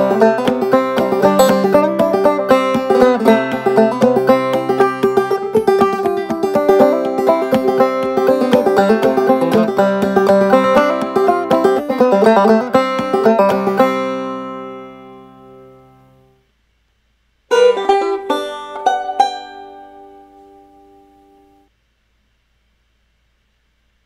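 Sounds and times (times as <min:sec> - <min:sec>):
banjo playing: 0:00.0 - 0:16.2, 0:17.5 - 0:21.4
plucked string notes: 0:00.0 - 0:16.4, 0:17.5 - 0:21.6.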